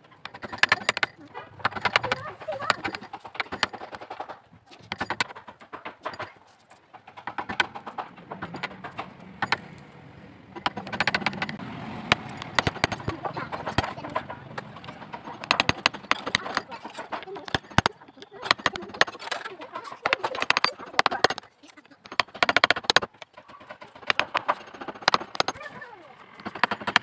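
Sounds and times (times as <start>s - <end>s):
chisel chipping wood: 0.1s - 27.0s.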